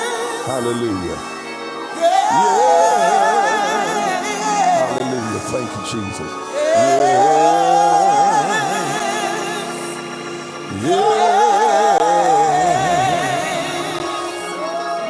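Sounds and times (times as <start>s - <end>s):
man singing with vibrato: 0.0s - 15.0s
sustained organ-like chord: 0.0s - 15.0s.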